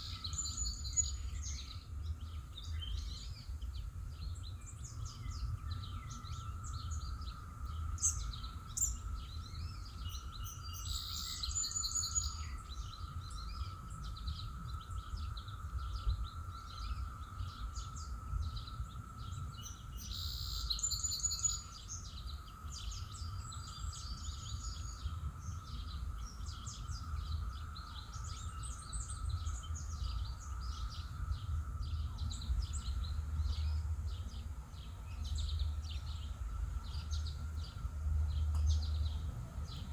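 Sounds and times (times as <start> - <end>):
low outdoor rumble: 0.0 - 39.9
songbirds chirping and singing: 0.0 - 39.9.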